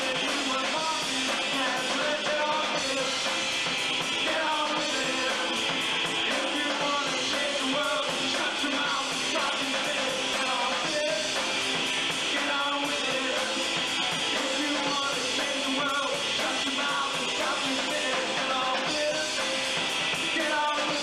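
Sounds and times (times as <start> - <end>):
drums: 0.0 - 21.0
electric guitars: 0.0 - 21.0
lead singer: 0.0 - 21.0.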